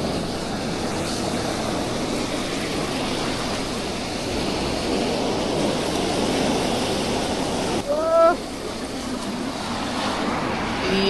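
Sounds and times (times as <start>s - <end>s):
ocean surf washing onto beach: 0.0s - 11.0s
wind buffeting microphone: 0.0s - 11.0s.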